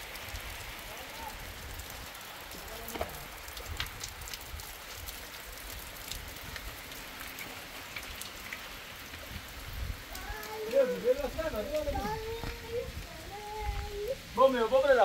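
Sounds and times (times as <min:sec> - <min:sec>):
steady rain hiss: 0:00.0 - 0:15.0
raindrop taps: 0:01.7 - 0:14.0.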